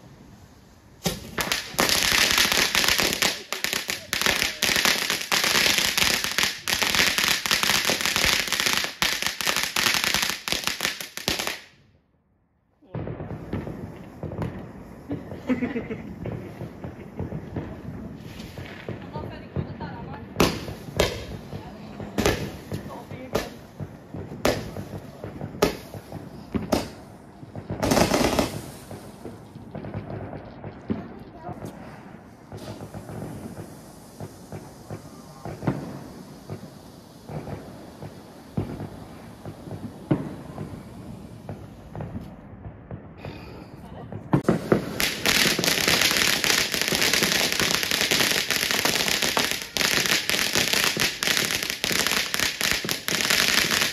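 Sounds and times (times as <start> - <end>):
firework fountain crackling: 0.0 - 11.9, 12.7 - 53.9.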